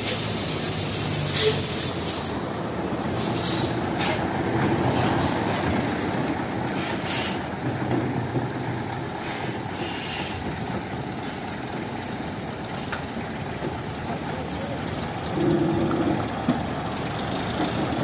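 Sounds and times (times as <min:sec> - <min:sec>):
heavy truck rumbling past: 0:00.0 - 0:18.0.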